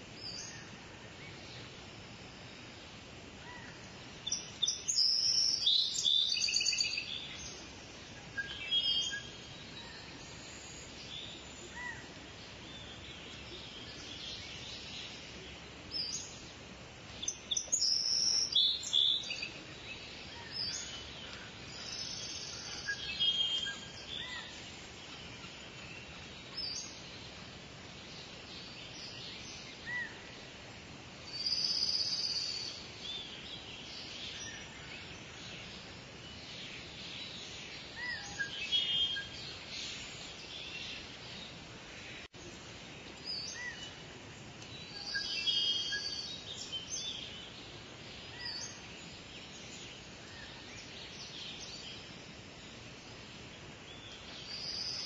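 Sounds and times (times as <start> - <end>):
steady background hiss: 0.0 - 55.0
birds chirping: 3.4 - 30.7, 31.3 - 55.0.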